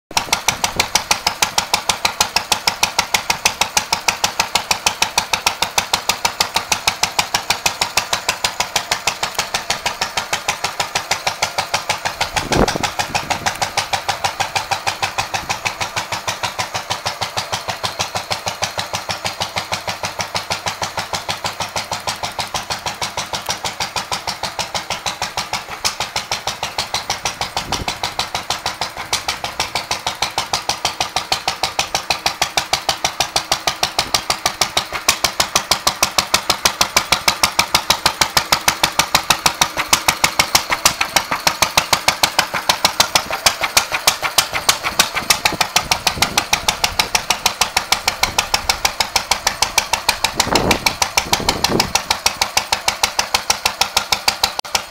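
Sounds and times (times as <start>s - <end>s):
engine knock: 0.1s - 54.9s
stationary engine running: 0.1s - 54.9s.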